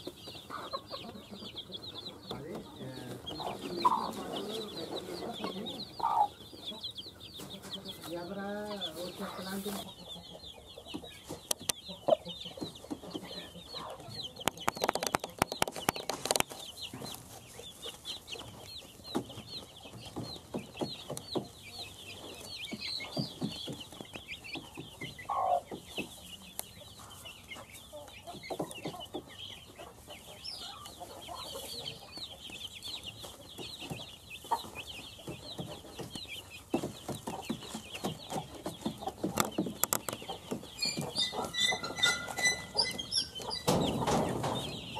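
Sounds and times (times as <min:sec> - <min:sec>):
chicks peeping: 0:00.0 - 0:44.9
hen clucking: 0:00.0 - 0:44.9.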